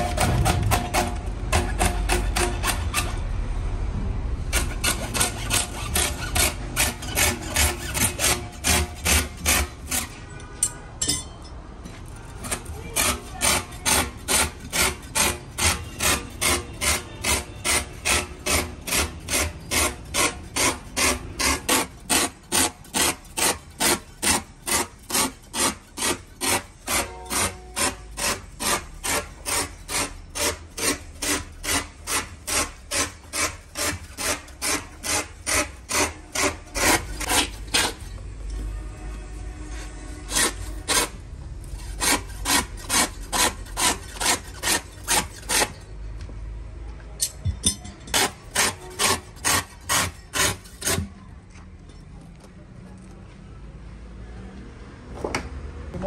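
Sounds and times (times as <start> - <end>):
hand tool rasping: 0.0 - 3.2, 4.5 - 45.9, 47.2 - 51.2.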